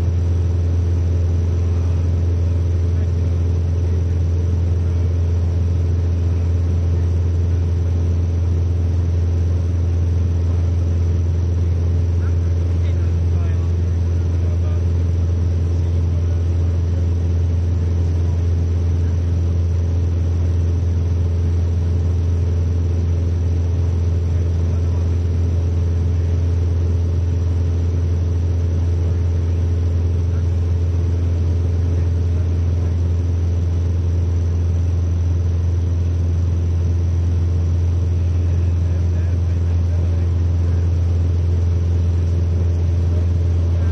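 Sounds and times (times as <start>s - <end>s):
propeller plane engine droning: 0.0s - 43.9s.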